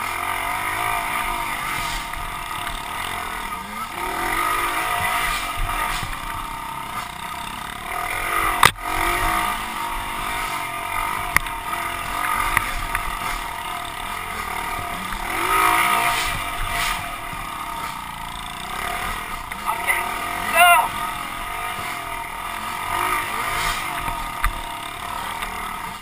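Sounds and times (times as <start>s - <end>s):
pit bike engine revving: 0.0s - 26.0s.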